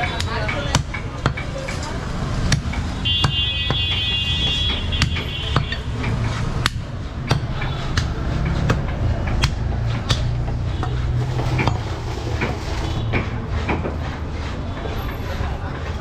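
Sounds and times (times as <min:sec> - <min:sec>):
cleaver chopping meat: 0:00.0 - 0:14.0.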